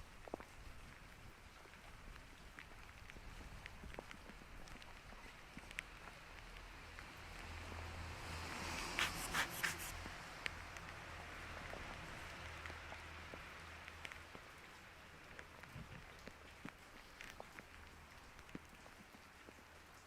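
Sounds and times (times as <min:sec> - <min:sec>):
rain on wet street: 0:00.0 - 0:20.0.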